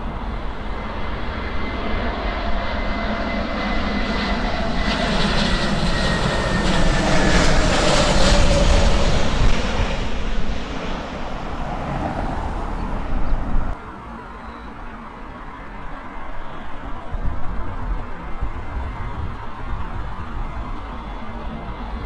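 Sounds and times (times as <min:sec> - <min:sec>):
jet airliner passing overhead: 0:00.0 - 0:22.0.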